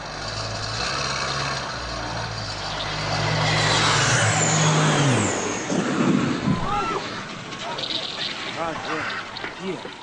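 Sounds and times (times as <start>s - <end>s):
propeller plane flying overhead: 1.1s - 9.4s.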